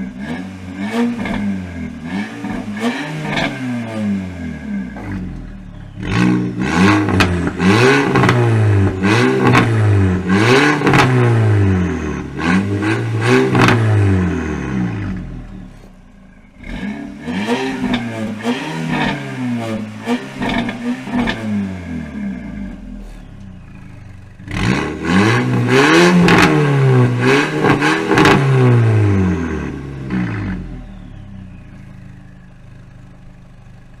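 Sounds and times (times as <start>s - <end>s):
car engine revving: 0.0s - 34.0s
exhaust cracks: 0.0s - 34.0s.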